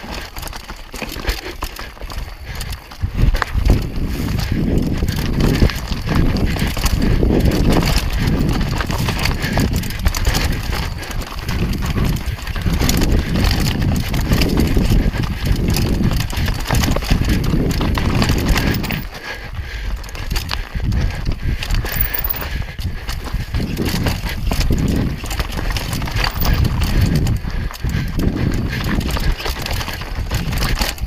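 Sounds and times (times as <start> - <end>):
bike tyres crunching over stones: 0.0 - 31.0.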